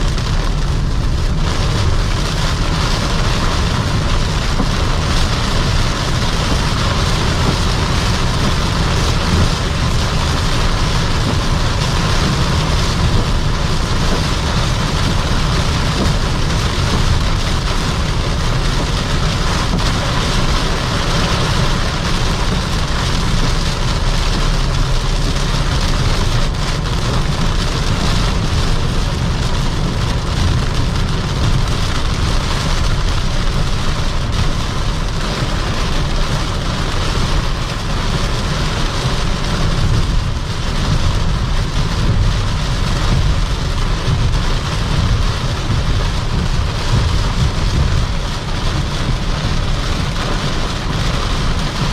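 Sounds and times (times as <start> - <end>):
rain hitting car: 0.0 - 51.9
tyre and road noise: 0.0 - 51.9.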